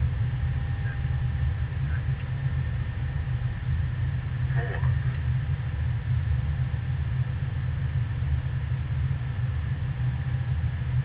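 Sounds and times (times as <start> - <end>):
airplane engine rumble: 0.0 - 11.0
faint steady tones: 0.0 - 11.0.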